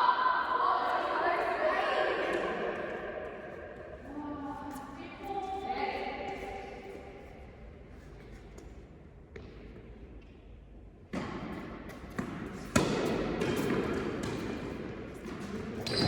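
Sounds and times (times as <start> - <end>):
indoor court background noise: 0.0 - 16.0.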